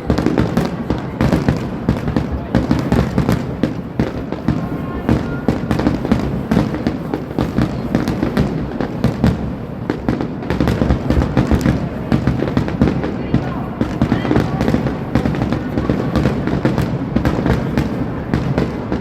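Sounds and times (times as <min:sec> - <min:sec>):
deep fireworks booms: 0:00.0 - 0:19.0
fireworks bangs and crackles: 0:00.0 - 0:19.0.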